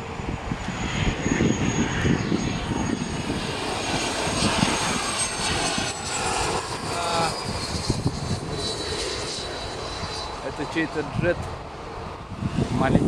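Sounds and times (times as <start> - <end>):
jet aeroplane flying over: 0.0 - 13.0.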